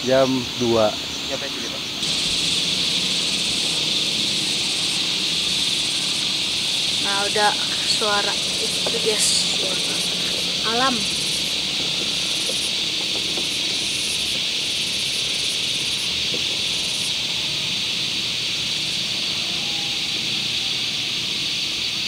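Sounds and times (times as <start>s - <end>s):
high insect drone: 0.0s - 22.0s
pulsing insect call: 0.0s - 22.0s.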